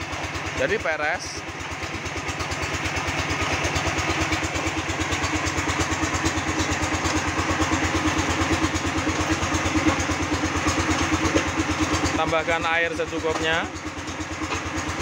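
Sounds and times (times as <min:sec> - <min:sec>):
concrete mixer engine chugging: 0:00.0 - 0:15.0.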